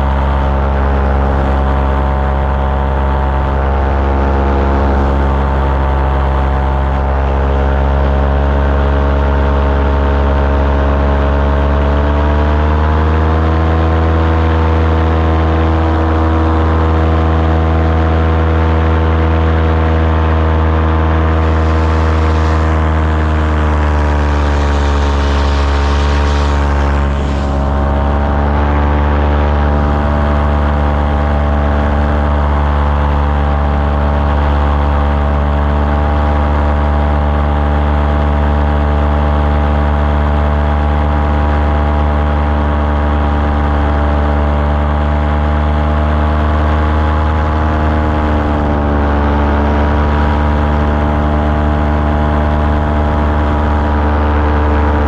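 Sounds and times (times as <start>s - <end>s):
propeller aircraft engine running: 0.0s - 55.0s.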